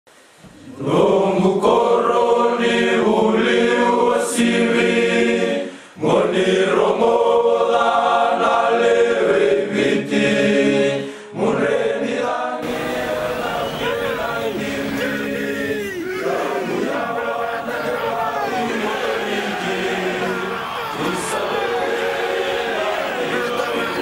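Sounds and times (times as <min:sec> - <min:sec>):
choir singing: 0:00.7 - 0:24.0.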